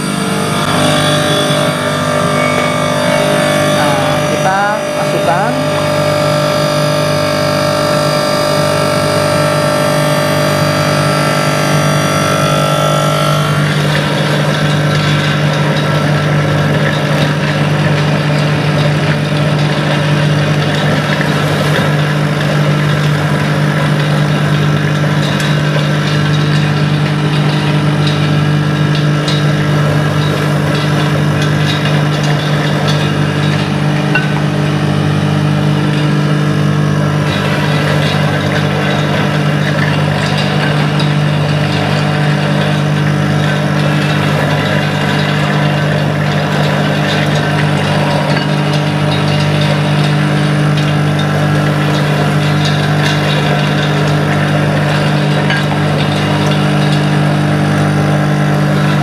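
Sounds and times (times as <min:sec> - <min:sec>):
electric motor humming: 0:00.0 - 0:59.0.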